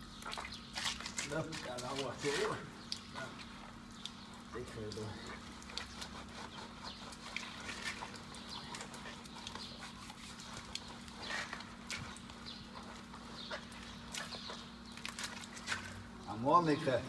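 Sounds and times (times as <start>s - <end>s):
wet rubbing on horse coat: 0.2s - 16.0s.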